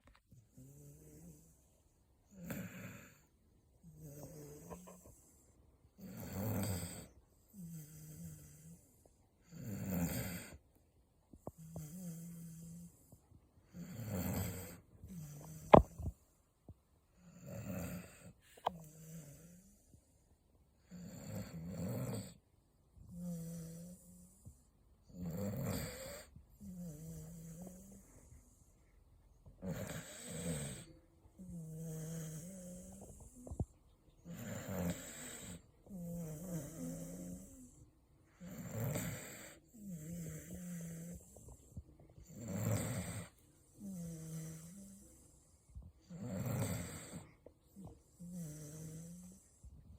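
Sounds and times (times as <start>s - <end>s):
dog snoring: 0.3s - 10.6s, 11.4s - 16.2s, 17.2s - 20.0s, 20.8s - 22.4s, 23.0s - 28.7s, 29.5s - 49.8s.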